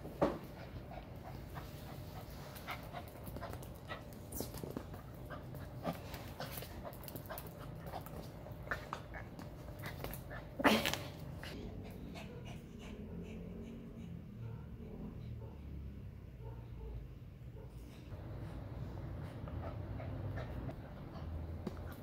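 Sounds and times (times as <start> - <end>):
dog panting: 0.2 - 10.6, 11.4 - 14.8, 18.2 - 22.0.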